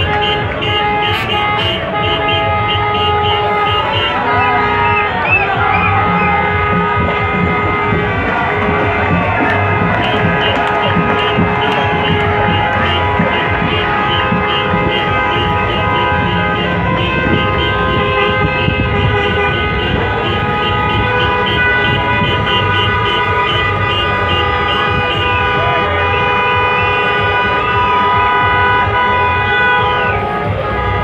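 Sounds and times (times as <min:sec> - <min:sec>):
car horns honking: 0:00.0 - 0:31.0
horns beeping in quick pattern: 0:00.0 - 0:31.0.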